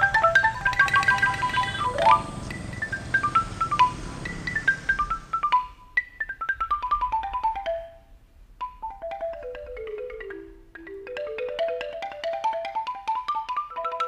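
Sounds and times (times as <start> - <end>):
tuned mallet percussion runs: 0.0 - 14.0.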